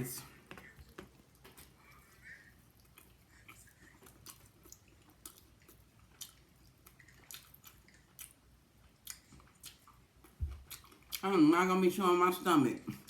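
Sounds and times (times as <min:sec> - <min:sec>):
wet chewing: 0:00.4 - 0:11.4.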